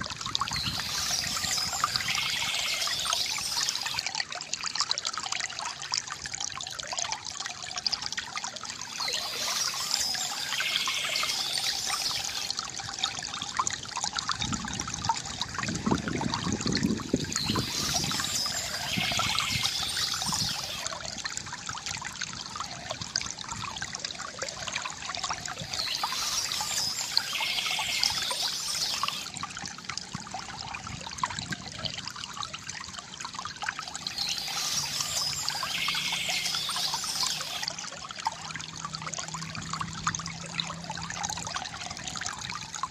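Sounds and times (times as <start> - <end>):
deeper water gurgle: 0.0 - 42.9
water trickling into basin: 0.0 - 42.9.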